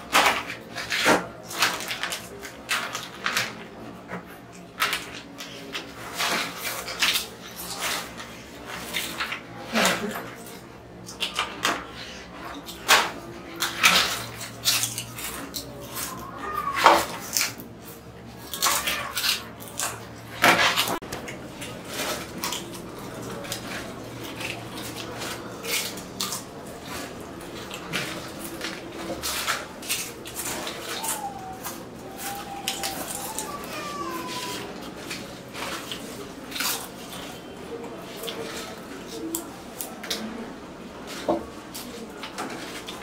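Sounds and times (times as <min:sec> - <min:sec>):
potato chips crunching: 0:04.3 - 0:40.4, 0:41.0 - 0:43.0.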